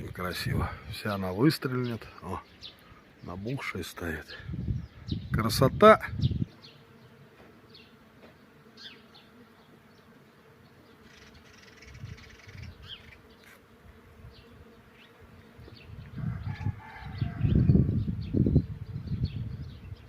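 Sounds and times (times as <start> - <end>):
insect buzzing: 0.0 - 20.0.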